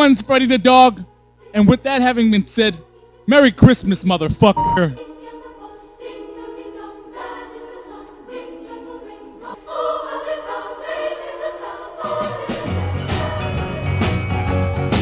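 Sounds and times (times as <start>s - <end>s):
choir singing held chords: 1.0s - 4.0s, 4.6s - 15.0s.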